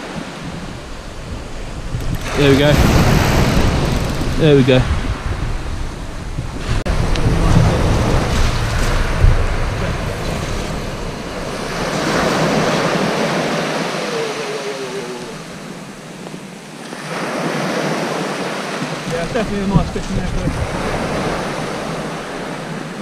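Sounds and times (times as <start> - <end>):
surf on shingle beach: 0.0 - 23.0
wind rumbling on microphone: 0.0 - 23.0.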